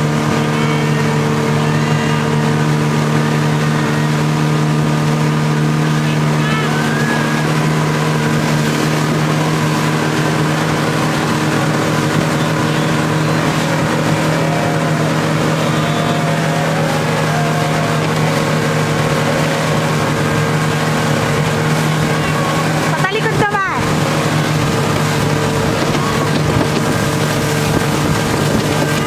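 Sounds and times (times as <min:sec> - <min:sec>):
motorboat engine running: 0:00.0 - 0:29.0
wake water rushing: 0:00.0 - 0:29.0.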